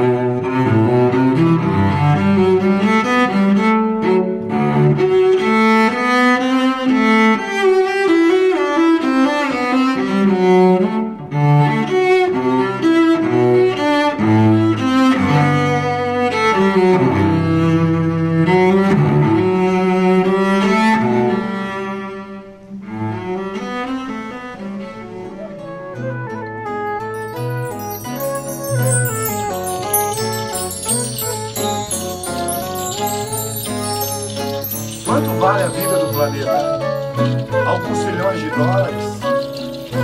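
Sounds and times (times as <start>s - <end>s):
low bowed string music: 0.0s - 40.0s.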